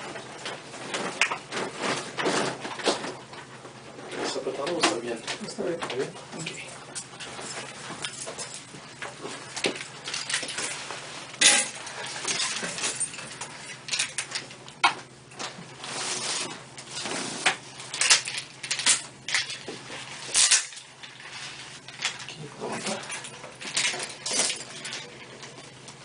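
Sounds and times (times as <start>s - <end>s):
rustling: 0.0s - 14.5s, 15.4s - 26.0s.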